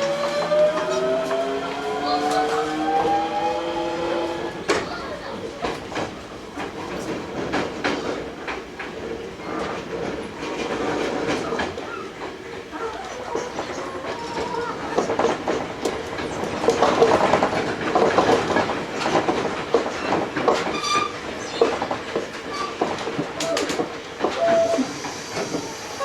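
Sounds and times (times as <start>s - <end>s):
wheels clattering over rail joints: 0.0s - 26.0s.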